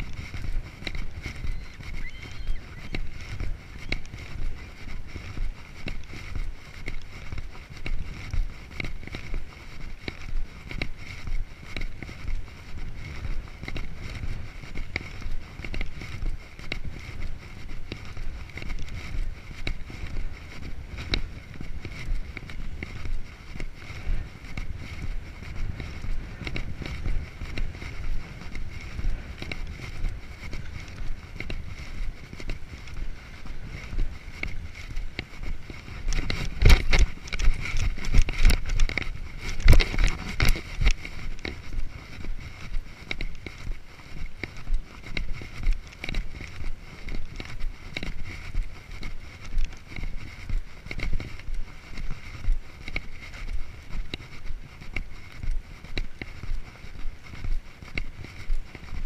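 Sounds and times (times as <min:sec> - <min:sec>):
footsteps on concrete: 0:00.0 - 0:59.0
wind rumbling on microphone: 0:00.0 - 0:59.0.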